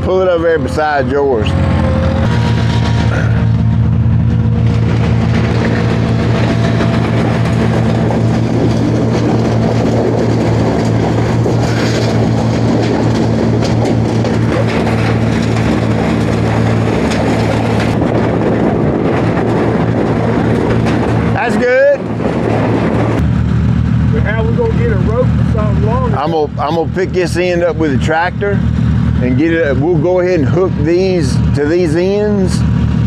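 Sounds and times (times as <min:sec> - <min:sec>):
engine humming steadily: 0:00.0 - 0:33.0.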